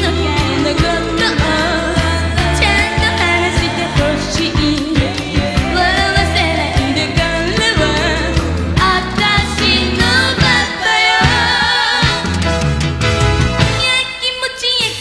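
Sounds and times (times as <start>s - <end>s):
woman singing into microphone: 0.0s - 12.3s
funk disco bass and drums: 0.0s - 14.0s.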